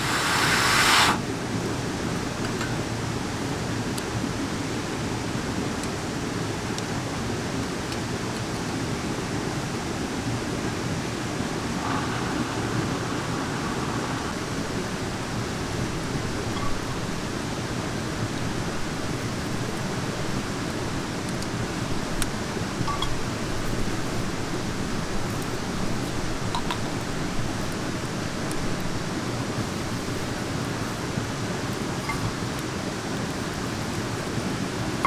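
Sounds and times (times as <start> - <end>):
steady rain hissing: 0.0 - 35.0.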